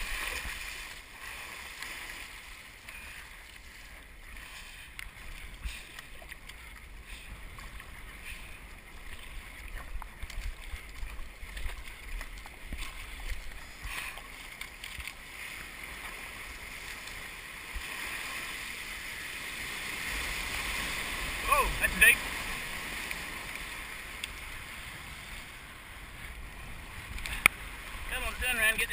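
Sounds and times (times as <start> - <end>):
paddle strokes splashing: 0.0 - 28.9
rush of water: 0.0 - 28.9
water washing against hull: 0.0 - 28.9.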